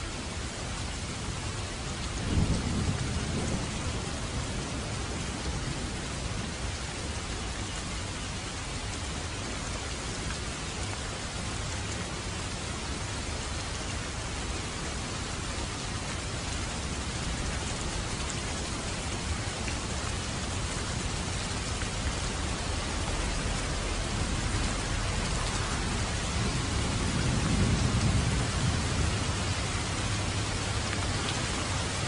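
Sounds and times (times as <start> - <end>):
heavy rain on pavement: 0.0 - 32.0.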